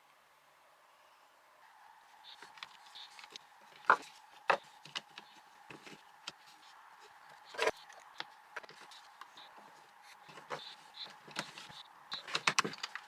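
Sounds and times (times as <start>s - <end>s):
plastic and metal parts clicking: 2.4s - 13.0s.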